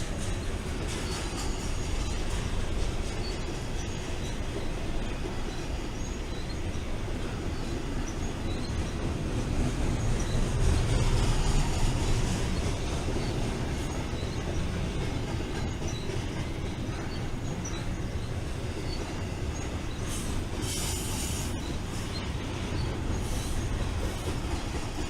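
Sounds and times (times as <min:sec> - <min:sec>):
freight train rumbling past: 0:00.0 - 0:25.0
wheels clacking over rail joints: 0:00.0 - 0:25.0.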